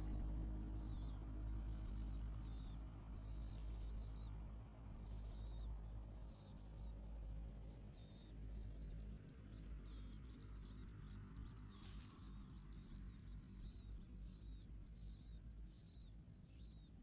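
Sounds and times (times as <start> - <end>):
small bird chirping: 0.0 - 17.0
steady low hum: 0.0 - 17.0.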